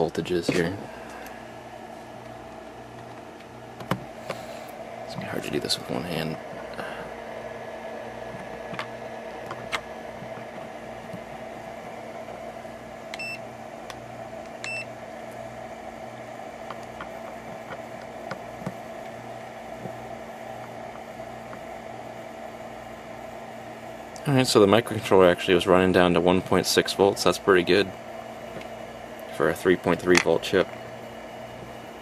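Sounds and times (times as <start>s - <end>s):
cooling fan hum: 0.0s - 32.0s.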